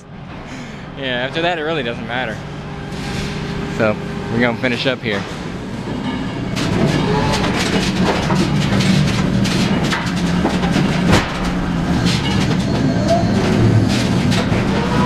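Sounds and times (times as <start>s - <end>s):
heavy engine running: 0.0s - 15.0s
clanks and rattles: 2.8s - 15.0s.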